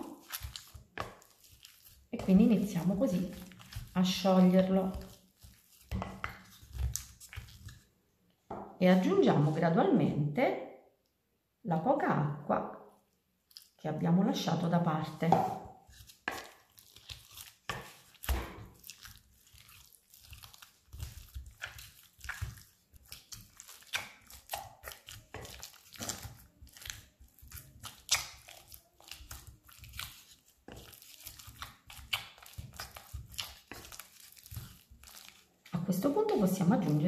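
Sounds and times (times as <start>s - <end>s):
wooden spoon scraping dough in glass bowl: 0.0s - 7.9s, 14.5s - 37.0s.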